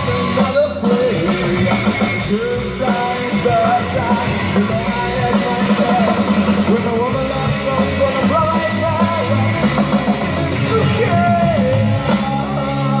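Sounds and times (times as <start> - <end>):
bass: 0.0 - 13.0
drums: 0.0 - 13.0
person singing: 0.0 - 13.0.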